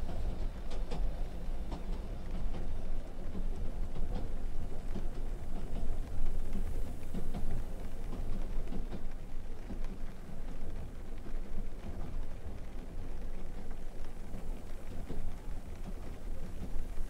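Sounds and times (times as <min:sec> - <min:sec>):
rain patter: 0:00.0 - 0:17.0
wind low rumble: 0:00.0 - 0:17.0.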